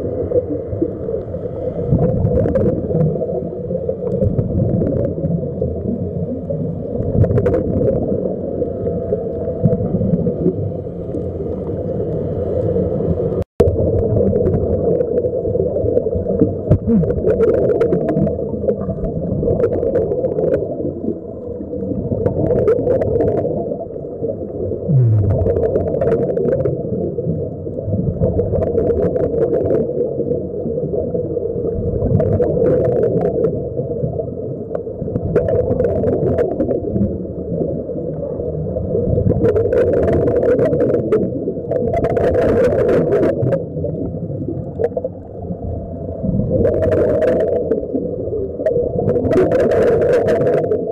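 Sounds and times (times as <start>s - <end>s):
air bubbles gurgling: 0.0s - 50.9s
muffled underwater rushing: 0.0s - 50.9s.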